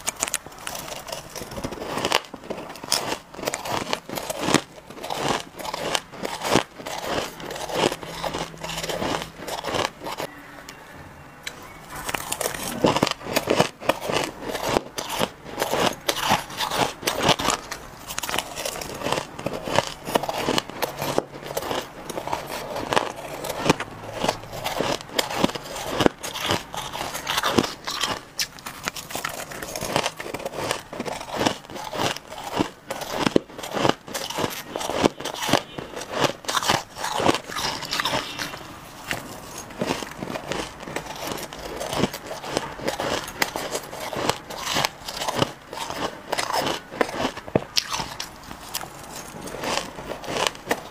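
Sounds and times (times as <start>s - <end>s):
person crunching shaved ice: 0.0s - 10.3s, 11.5s - 50.9s.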